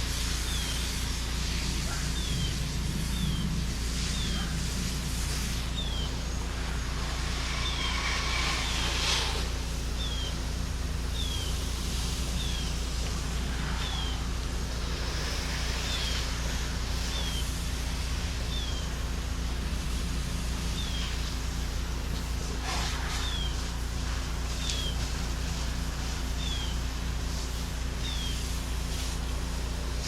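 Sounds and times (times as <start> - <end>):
pressure washer engine hum: 0.0 - 30.0
water spray hissing: 0.0 - 30.0.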